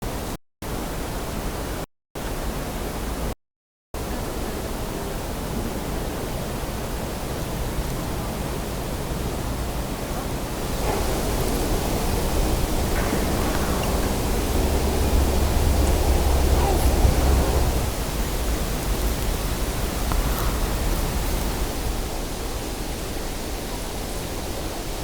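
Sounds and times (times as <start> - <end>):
steady rushing noise: 4.0 - 25.0.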